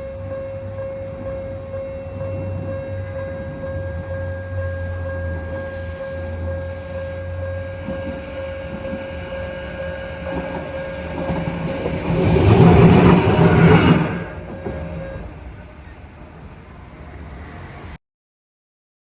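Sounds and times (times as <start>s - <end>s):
crossing warning alarm tone: 0.0s - 15.6s
train passing over crossing: 0.0s - 18.0s.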